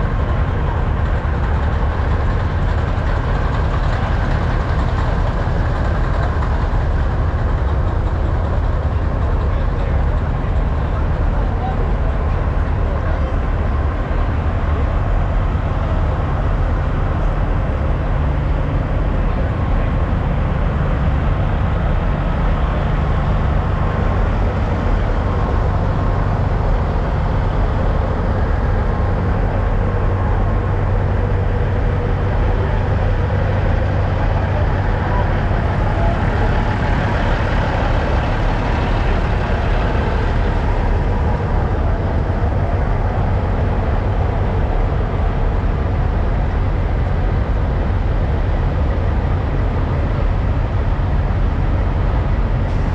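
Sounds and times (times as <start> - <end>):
diesel truck engines idling: 0.0 - 52.9.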